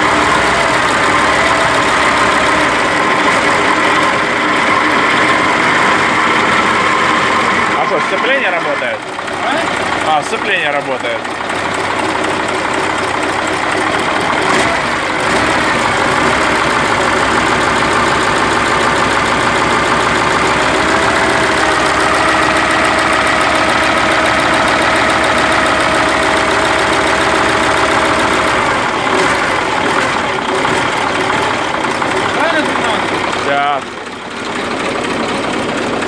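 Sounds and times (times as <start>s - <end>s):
diesel truck engine idling: 0.0s - 36.0s.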